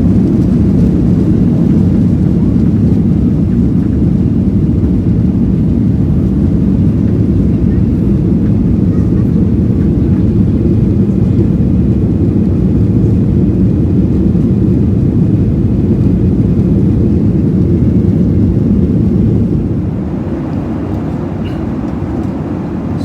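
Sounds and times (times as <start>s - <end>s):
jet engine rumble in cabin: 0.0s - 23.0s.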